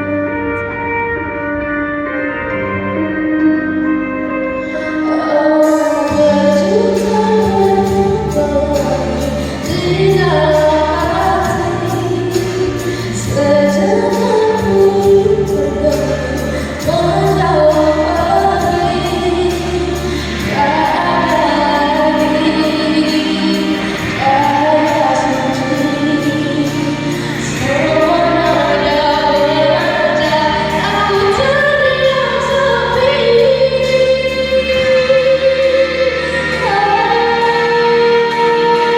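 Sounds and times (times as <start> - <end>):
instrumental backing: 0.0 - 38.9
person singing: 0.0 - 38.9.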